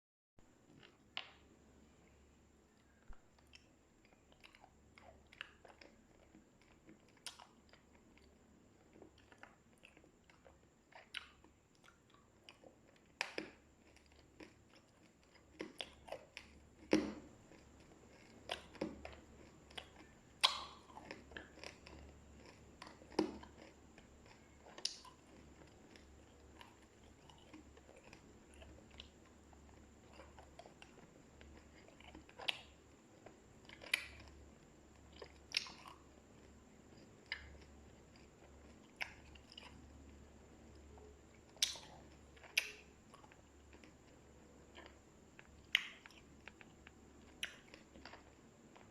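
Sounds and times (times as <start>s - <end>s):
candies crunching and chewing: 2.8s - 48.9s.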